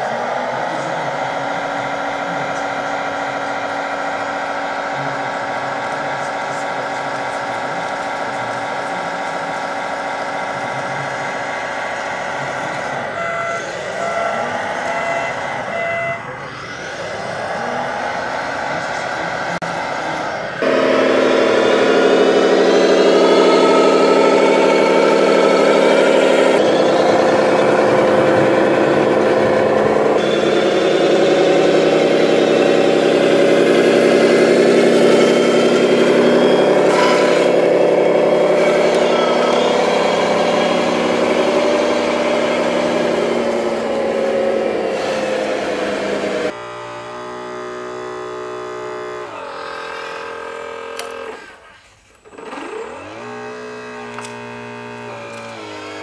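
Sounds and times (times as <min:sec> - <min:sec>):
diesel truck engine from small speaker: 0:00.0 - 0:56.0.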